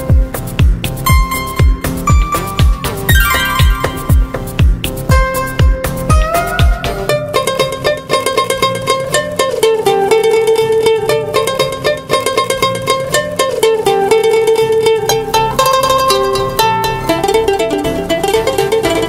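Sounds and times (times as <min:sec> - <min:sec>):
upbeat plucked string music: 0:00.0 - 0:19.0.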